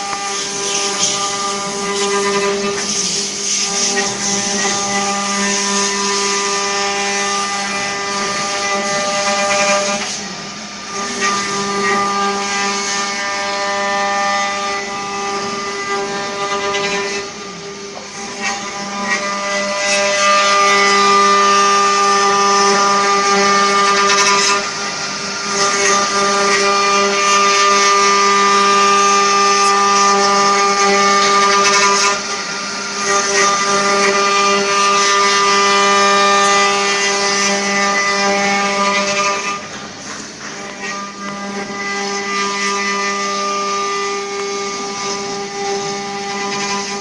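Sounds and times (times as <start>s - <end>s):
router bits cutting wood: 0.0s - 47.0s.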